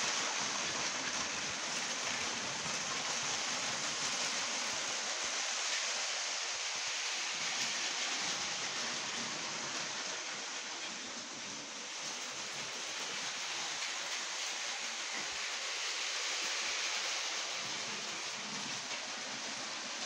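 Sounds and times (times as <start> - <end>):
toy trains on plastic track: 0.0 - 20.0.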